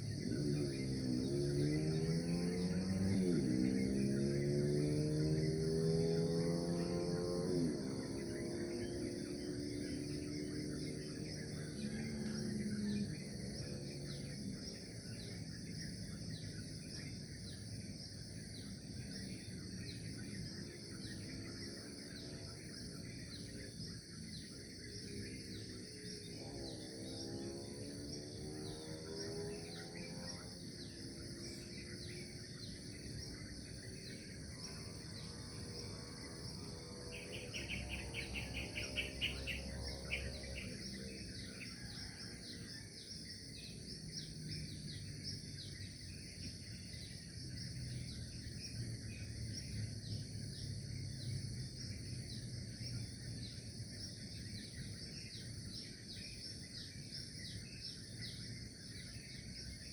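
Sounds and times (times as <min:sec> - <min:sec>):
insect chorus chirping: 0:00.0 - 0:59.9.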